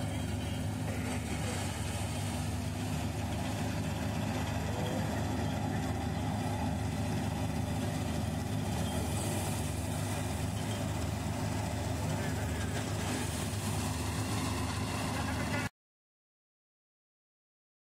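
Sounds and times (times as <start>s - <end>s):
combine harvester engine drone: 0.0s - 15.7s
header and threshing whir: 0.0s - 15.7s.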